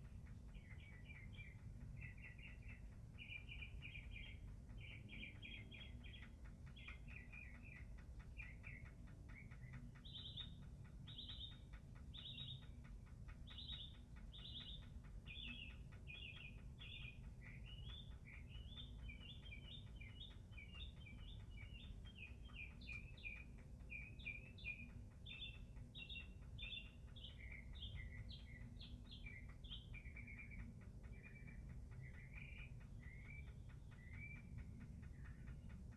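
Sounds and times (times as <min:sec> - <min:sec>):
bird chirping: 0:00.0 - 0:35.9.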